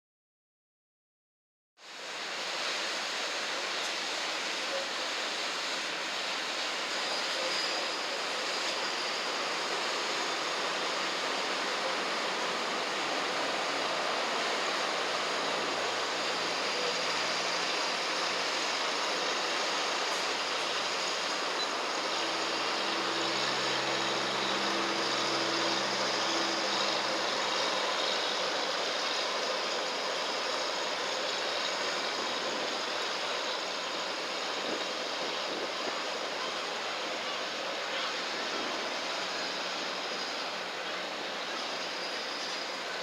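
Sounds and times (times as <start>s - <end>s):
rushing river ambience: 1.8s - 43.0s.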